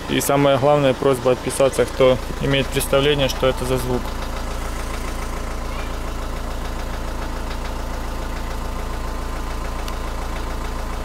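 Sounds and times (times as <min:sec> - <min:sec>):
diesel engine idling with knock: 0:00.0 - 0:11.0.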